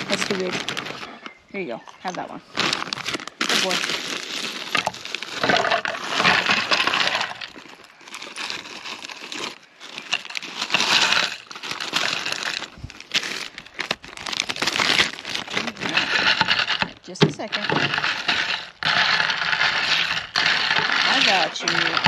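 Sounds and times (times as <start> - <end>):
ice cubes clinking into tumbler: 0.0 - 22.0
plastic bag crinkling: 0.0 - 22.0.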